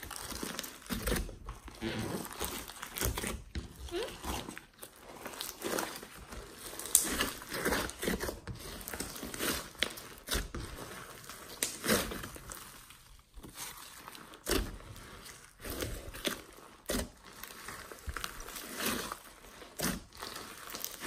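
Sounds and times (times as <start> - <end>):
slime squelching: 0.0 - 21.0.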